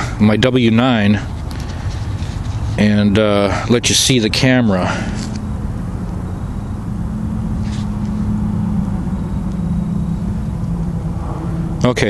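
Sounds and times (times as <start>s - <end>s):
constant low hum: 0.0s - 12.0s
low mechanical rumble: 0.0s - 12.0s.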